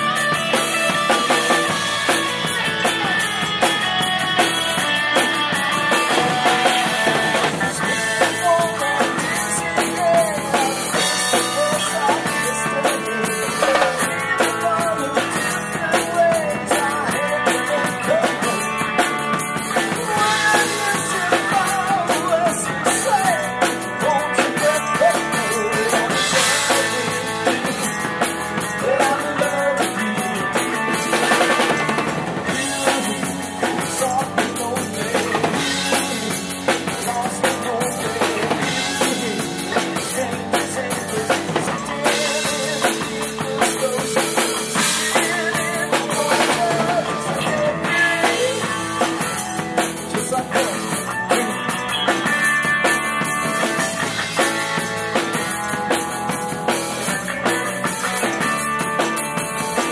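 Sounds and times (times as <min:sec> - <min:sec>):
drum kit beat: 0:00.0 - 0:59.9
live band playing: 0:00.0 - 0:59.9.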